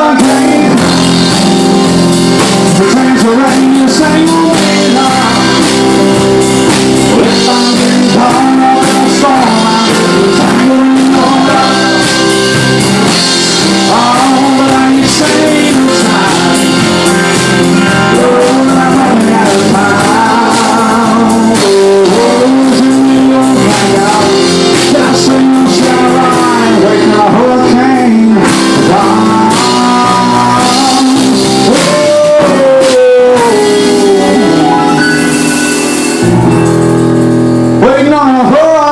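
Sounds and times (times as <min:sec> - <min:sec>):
country rock band playing: 0:00.0 - 0:38.9
melodic lead guitar line: 0:00.0 - 0:38.9.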